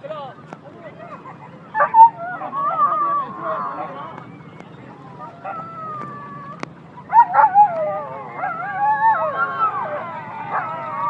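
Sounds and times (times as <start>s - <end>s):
dogs whining and yelping: 1.7s - 11.0s.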